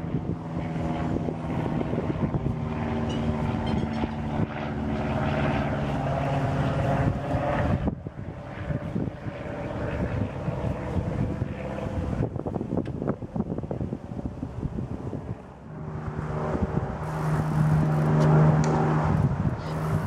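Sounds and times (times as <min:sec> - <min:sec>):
motor drone with hum: 0:00.0 - 0:20.0
wind on microphone: 0:00.0 - 0:20.0.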